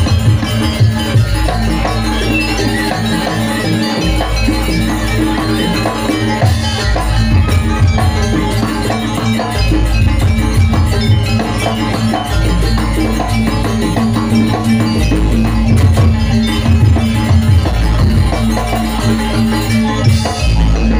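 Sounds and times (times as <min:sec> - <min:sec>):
gamelan music with percussion: 0:00.0 - 0:20.9.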